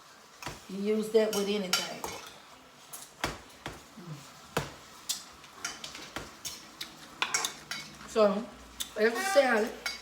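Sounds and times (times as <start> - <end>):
kitchen utensils and dishes clinking: 0.4 - 3.9, 4.6 - 10.0.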